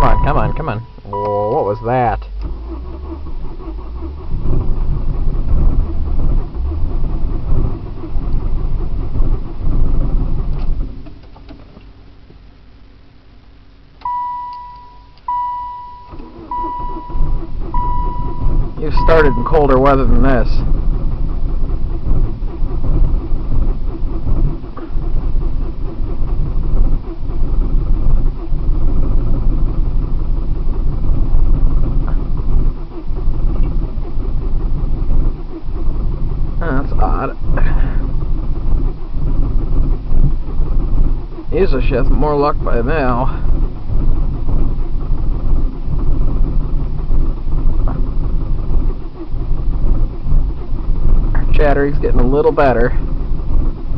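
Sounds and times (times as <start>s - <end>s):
car starter cranking: 0.0s - 12.4s, 14.0s - 53.9s.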